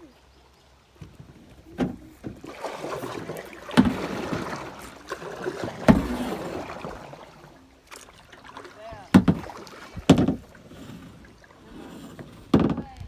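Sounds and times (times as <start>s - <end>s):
kayak paddle splashing: 1.0s - 13.0s.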